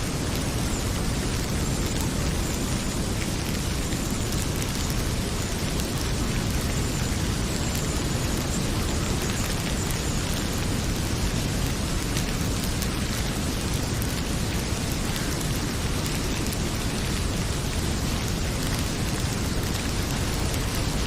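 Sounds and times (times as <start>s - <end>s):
heavy rain pouring: 0.0s - 21.0s
wood fire crackling: 0.0s - 21.0s.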